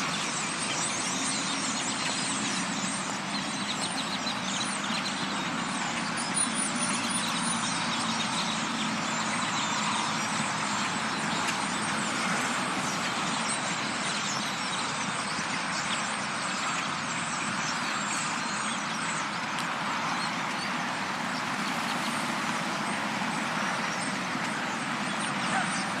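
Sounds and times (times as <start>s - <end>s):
flock of birds chattering: 0.0s - 26.0s
low traffic hum: 0.0s - 26.0s.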